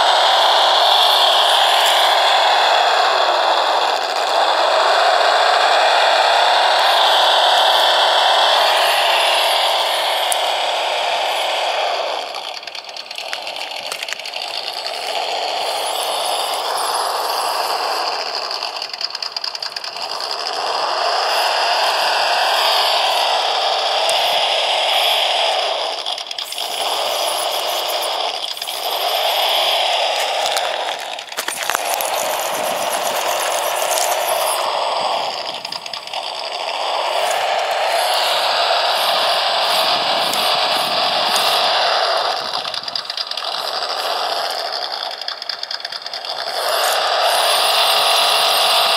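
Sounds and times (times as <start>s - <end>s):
electric drivetrain whir: 0.0s - 48.9s
simulated truck engine sound: 0.0s - 48.9s.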